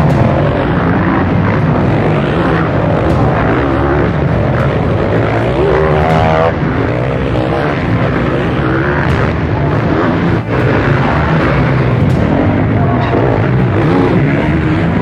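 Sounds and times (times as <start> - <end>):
motocross bikes racing: 0.0 - 15.0
motorbike revving sharply: 0.0 - 15.0.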